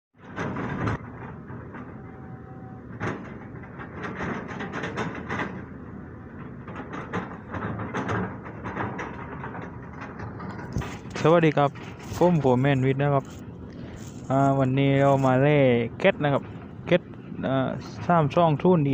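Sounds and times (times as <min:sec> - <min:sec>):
excavator engine running: 0:00.2 - 0:18.9
knocks and clattering: 0:00.2 - 0:18.9.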